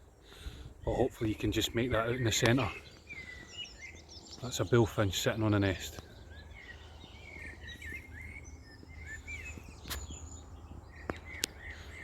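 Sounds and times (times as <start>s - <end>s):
songbirds warbling: 0.0s - 12.0s.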